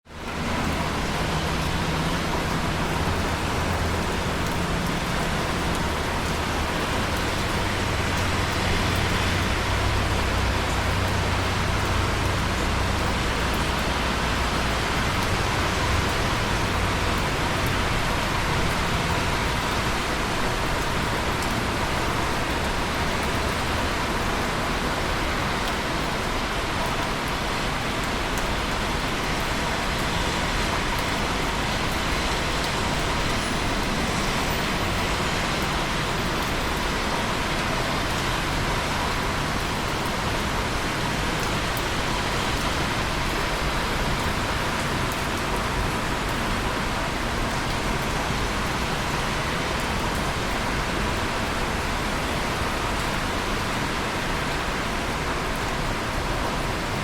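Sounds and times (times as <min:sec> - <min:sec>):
rain: 0:00.0 - 0:57.0
drips on concrete: 0:00.1 - 0:56.7
tyres hissing on wet road: 0:00.1 - 0:57.0.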